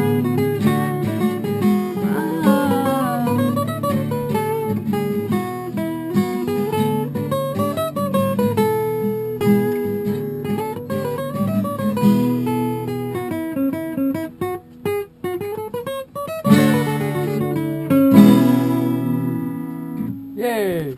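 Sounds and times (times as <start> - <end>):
acoustic guitar playing: 0.0 - 20.9.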